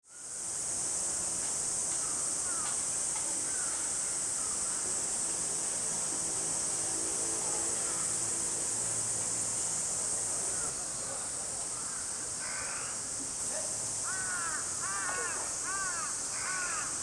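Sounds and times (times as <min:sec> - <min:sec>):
cicadas shrilling: 0:00.1 - 0:17.0.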